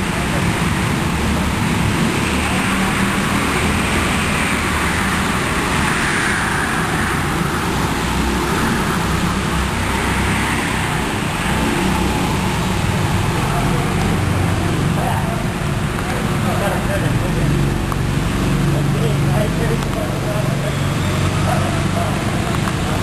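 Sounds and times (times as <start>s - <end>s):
go-karts racing past: 0.0s - 23.0s.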